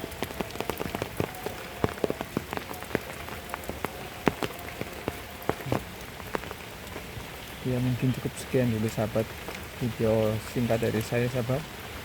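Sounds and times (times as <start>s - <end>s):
light rain hiss: 0.0s - 12.0s
raindrops ticking: 0.0s - 12.0s.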